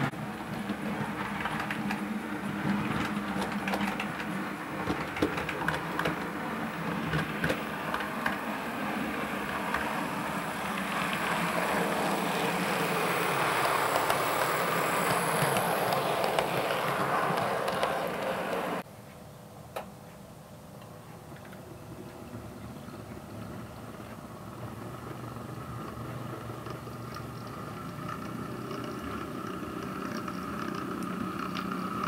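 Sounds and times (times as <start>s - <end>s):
model train motor running: 0.3s - 18.8s, 23.5s - 32.0s
model train wheels clicking: 0.4s - 18.8s, 24.8s - 32.0s.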